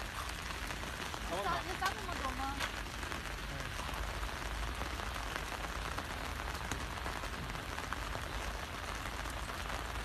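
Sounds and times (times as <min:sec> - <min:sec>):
raindrops ticking on umbrella: 0:00.0 - 0:10.0
steady rain falling: 0:00.0 - 0:10.0.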